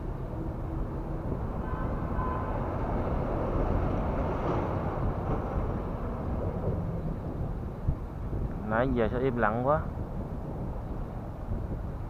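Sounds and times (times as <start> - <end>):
traffic rumbling on bridge: 0.0 - 12.0.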